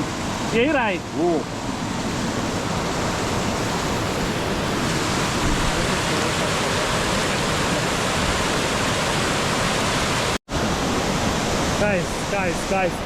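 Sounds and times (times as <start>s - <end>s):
waterfall rushing and splashing: 0.0s - 13.0s.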